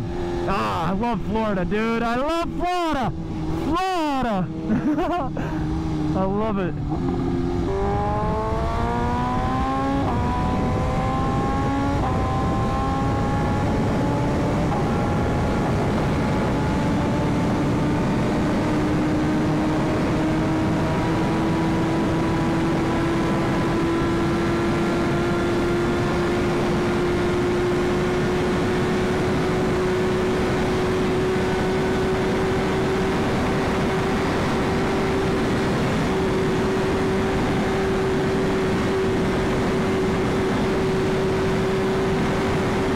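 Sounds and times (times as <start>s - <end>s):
motorcycle engine accelerating: 0.0s - 42.9s
wind noise: 4.4s - 42.9s.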